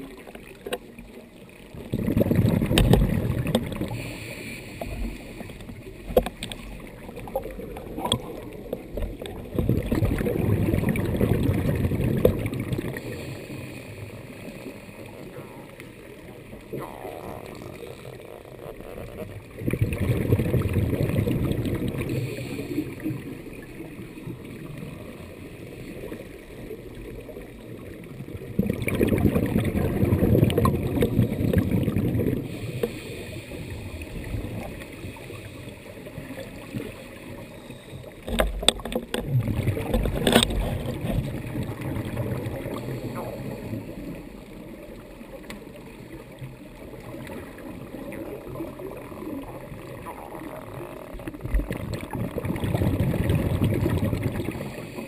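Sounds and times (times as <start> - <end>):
underwater rushing bubbles: 0.0 - 55.0.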